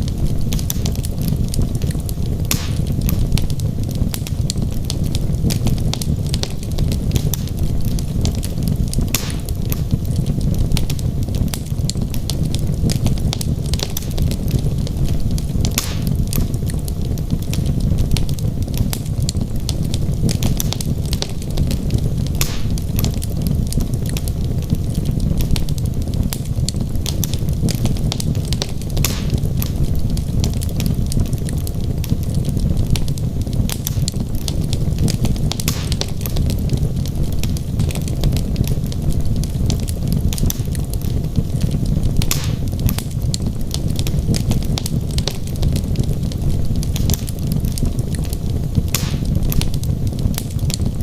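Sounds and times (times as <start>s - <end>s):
logs burning with crackles: 0.0s - 51.0s.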